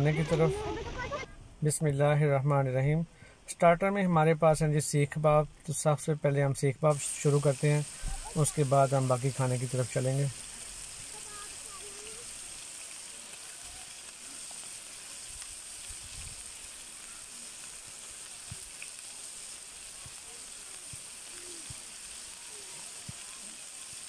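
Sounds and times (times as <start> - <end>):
kebabs sizzling in a frying pan: 0.0 - 1.2, 1.9 - 24.0.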